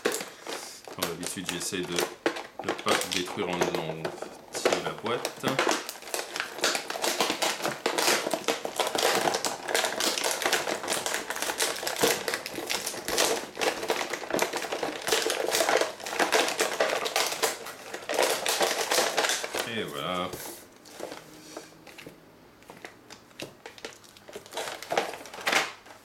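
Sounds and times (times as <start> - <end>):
plastic packaging crackling: 0.0 - 26.0.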